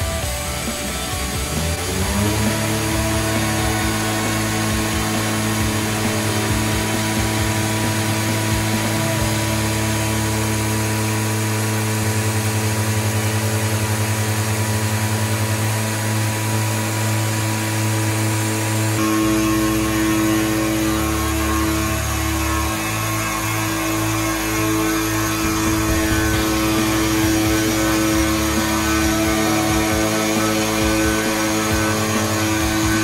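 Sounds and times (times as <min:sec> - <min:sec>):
machine hum and whine: 0:00.0 - 0:33.0.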